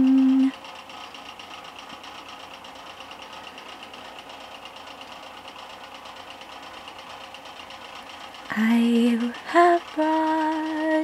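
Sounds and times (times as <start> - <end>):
machine-like noise with flutter and hiss: 0.0 - 11.0.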